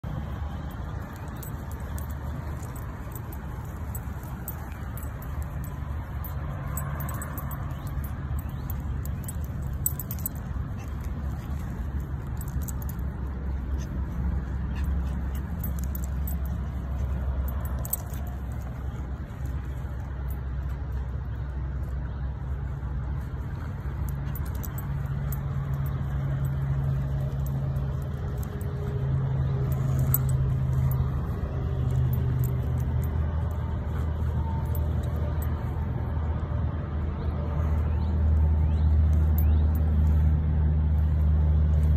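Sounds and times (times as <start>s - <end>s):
leash clips and dog tags jingling: 0.0s - 41.9s
steady low rumble: 0.0s - 41.9s.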